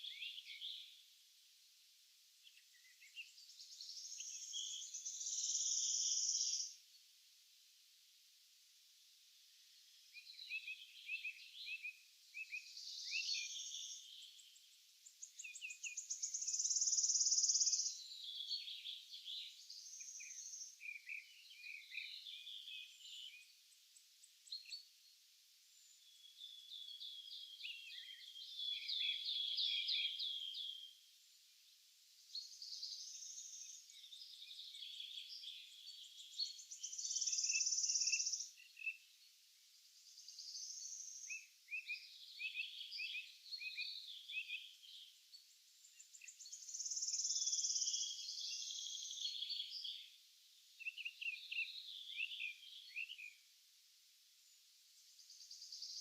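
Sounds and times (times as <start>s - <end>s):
songbirds singing: 0.0s - 7.4s, 9.1s - 56.0s.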